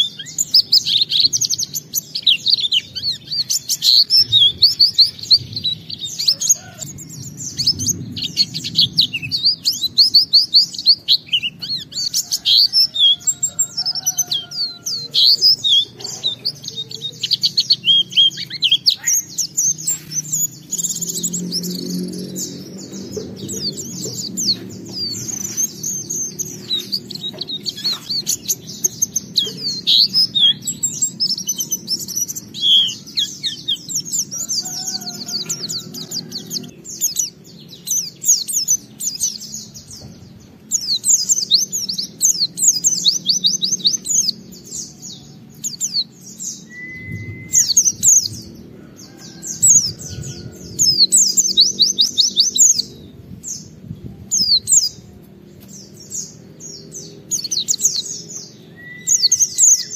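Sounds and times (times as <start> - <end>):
bird twittering song: 0.0 - 59.9.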